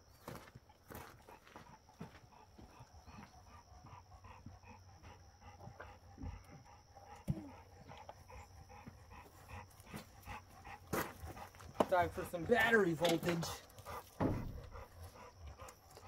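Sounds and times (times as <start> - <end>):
dog panting: 0.2 - 16.0.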